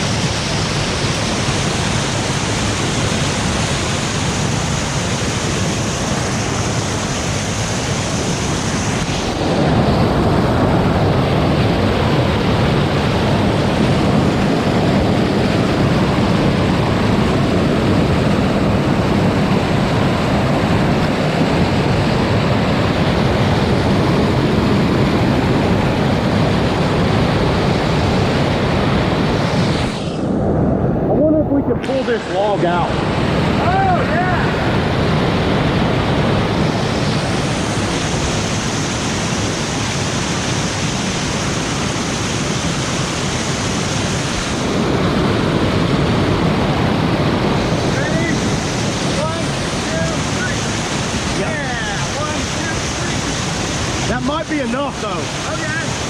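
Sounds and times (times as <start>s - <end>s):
whitewater rushing over river drop: 0.0s - 56.0s.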